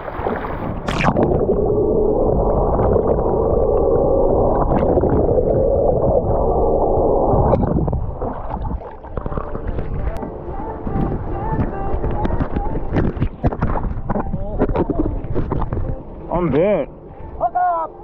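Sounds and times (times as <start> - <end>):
water gurgling: 0.0 - 17.4.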